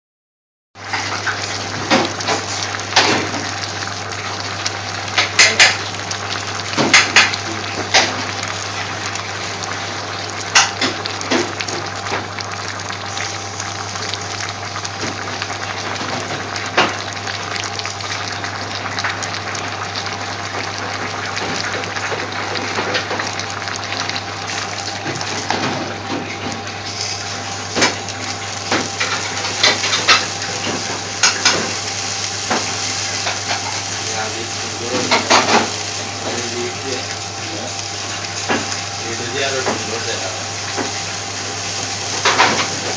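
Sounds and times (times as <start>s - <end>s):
pot boiling and bubbling: 0.8s - 42.9s.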